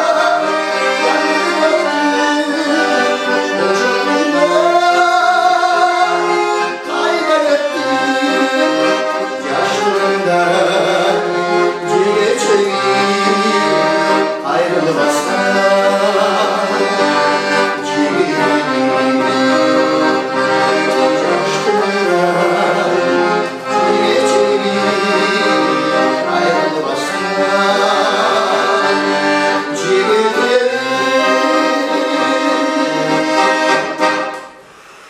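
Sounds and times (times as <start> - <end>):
piano accordion playing: 0.0 - 35.0.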